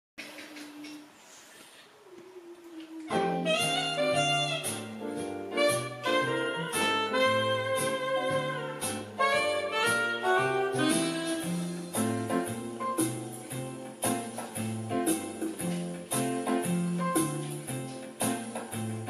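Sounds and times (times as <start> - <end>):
instrumental music with bass and beat: 3.2 - 19.0.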